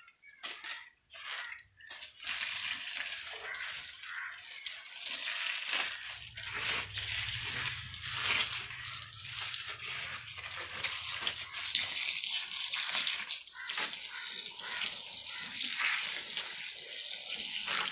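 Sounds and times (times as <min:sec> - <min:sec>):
garden hose spraying water: 0:01.4 - 0:17.9.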